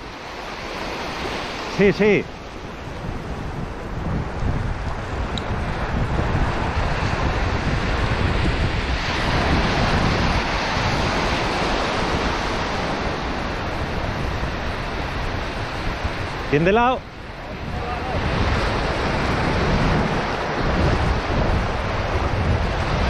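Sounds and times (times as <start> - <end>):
shallow surf washing: 0.0 - 23.0
wind buffeting microphone: 0.0 - 23.0.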